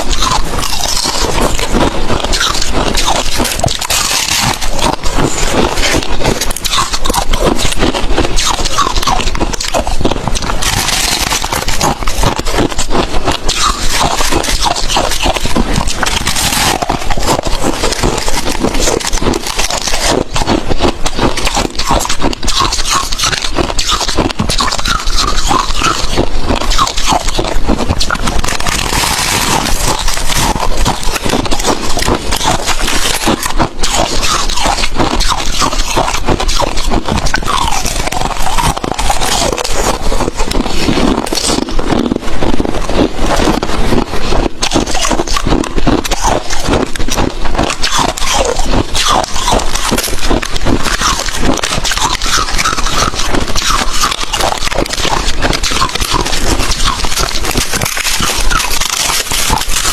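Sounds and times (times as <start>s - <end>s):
chewing crushed ice crunching: 0.0s - 59.9s.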